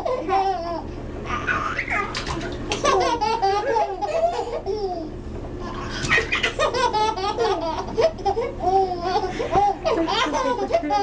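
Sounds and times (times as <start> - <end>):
babies laughing and babbling: 0.0 - 11.0.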